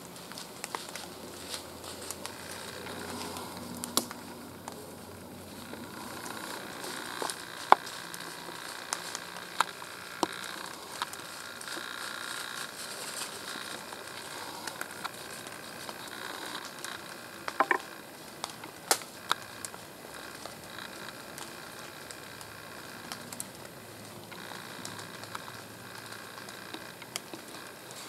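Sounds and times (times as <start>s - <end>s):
light rain pattering on leaves: 0.0s - 28.0s.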